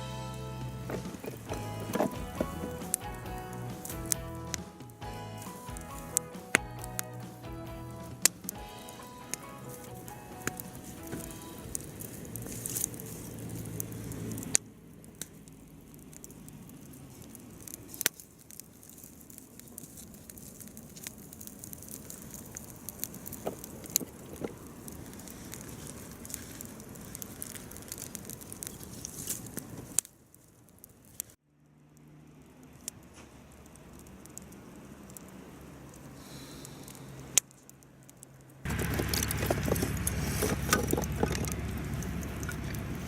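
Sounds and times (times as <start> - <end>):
campfire crackling and popping: 0.0 - 31.4, 32.4 - 43.0.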